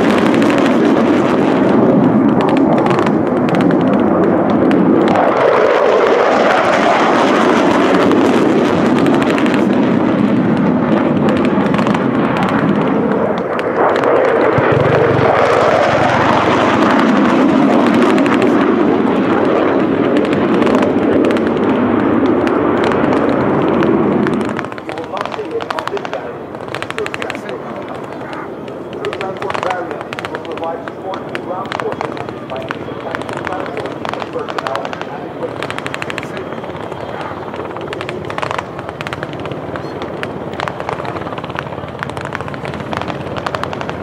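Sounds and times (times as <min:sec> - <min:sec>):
fighter jets flying past: 0:00.0 - 0:44.0.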